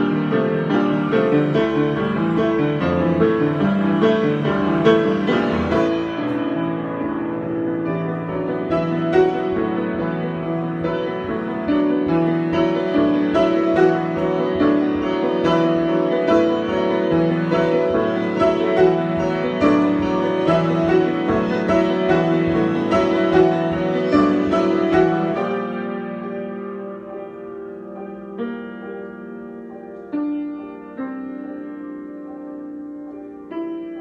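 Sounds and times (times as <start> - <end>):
solo piano improvisation: 0.0 - 34.0.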